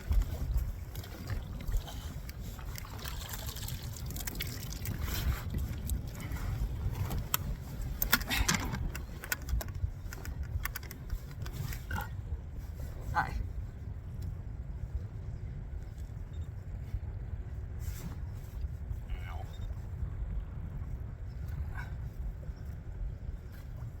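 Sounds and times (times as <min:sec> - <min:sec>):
water lapping at hull: 0:00.0 - 0:24.0
wind rumbling on microphone: 0:00.0 - 0:24.0.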